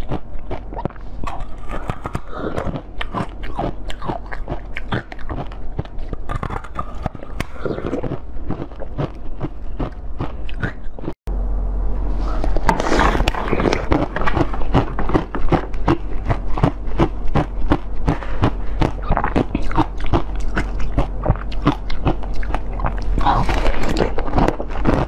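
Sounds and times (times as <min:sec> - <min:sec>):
chewing jelly: 0:00.0 - 0:11.2, 0:12.4 - 0:25.0.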